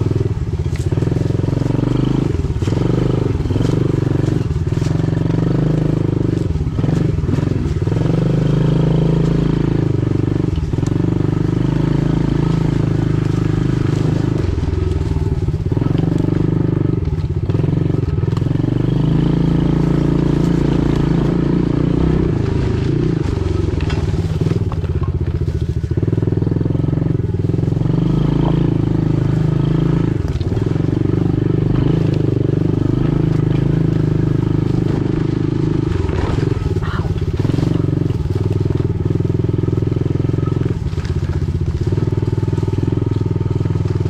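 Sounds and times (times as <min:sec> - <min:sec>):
pit bike engine running: 0:00.0 - 0:44.0.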